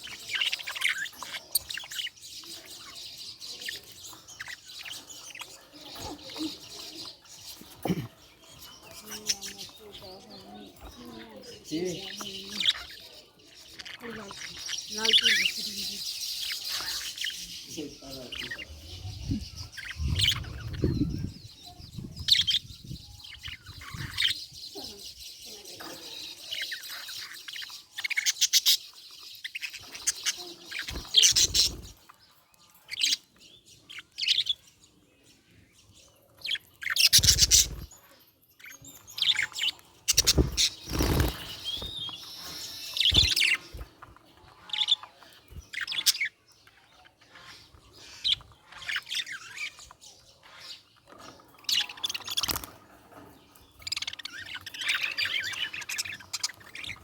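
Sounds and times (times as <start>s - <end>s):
budgerigar chirping and chattering: 0.0s - 57.0s.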